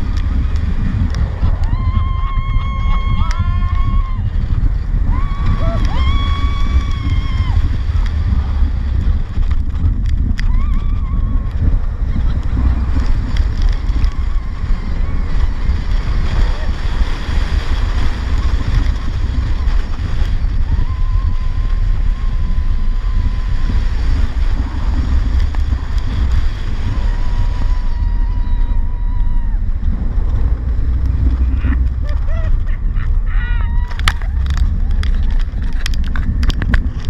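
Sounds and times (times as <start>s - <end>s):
roller coaster rumbling on track: 0.0s - 37.0s
wind on microphone: 0.0s - 37.0s.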